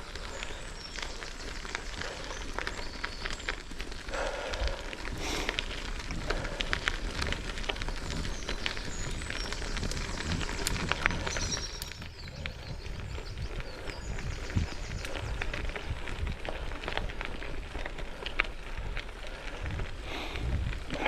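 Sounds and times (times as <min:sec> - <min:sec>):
bike tyres crunching on gravel: 0:00.0 - 0:21.0
wind rumble on microphone: 0:00.0 - 0:21.0.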